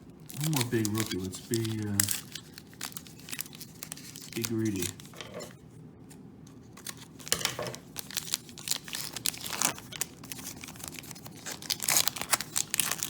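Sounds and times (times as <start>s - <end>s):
card pack wrapper crinkling: 0.1s - 5.2s, 6.5s - 13.0s.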